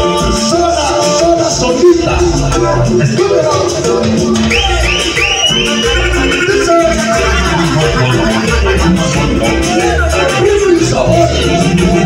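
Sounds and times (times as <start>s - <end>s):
loud cumbia music: 0.0s - 12.0s.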